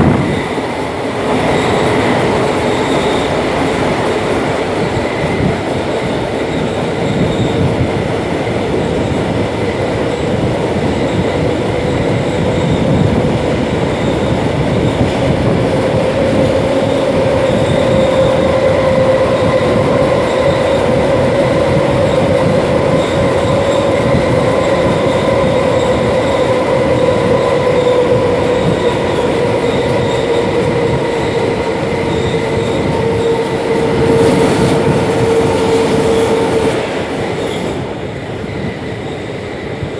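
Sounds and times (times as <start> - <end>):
train interior rolling noise: 0.0 - 39.9.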